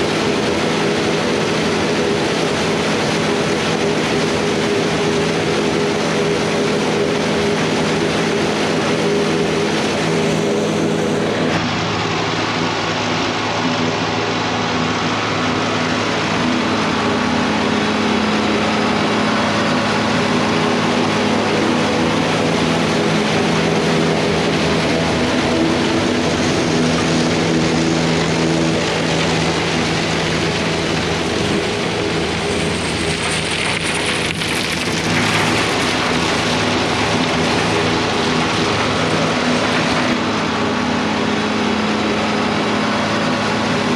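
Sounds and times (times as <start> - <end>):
dense rushing machine noise: 0.0 - 43.9
tractor engine hum: 0.0 - 43.9.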